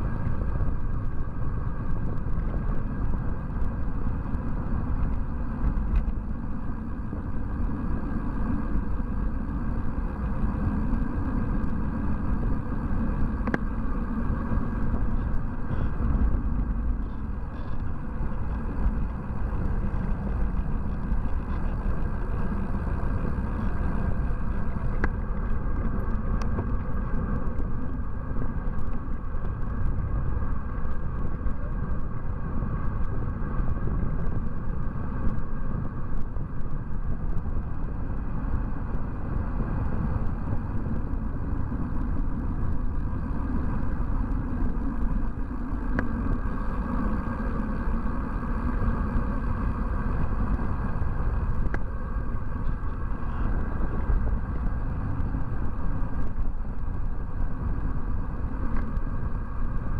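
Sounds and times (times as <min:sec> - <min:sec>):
tyre and road rumble: 0:00.0 - 0:59.9
wind buffeting microphone: 0:00.0 - 0:59.9.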